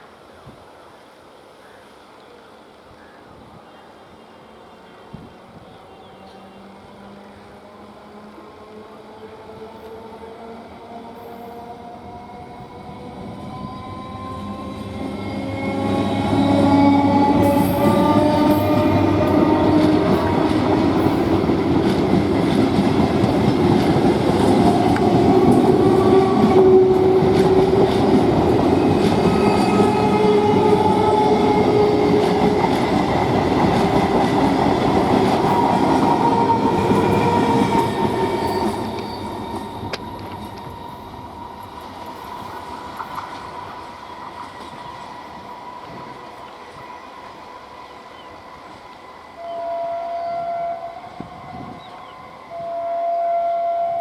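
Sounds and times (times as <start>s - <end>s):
held train tones: 4.4s - 54.0s
train passing: 4.4s - 54.0s.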